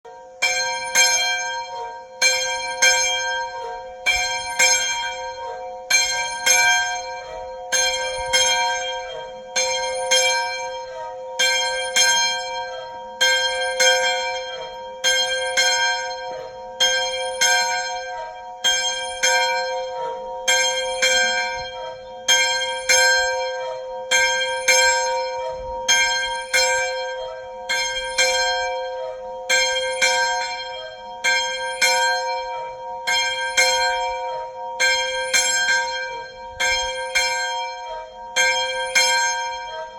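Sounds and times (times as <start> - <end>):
church bell ringing: 0.1 - 39.9.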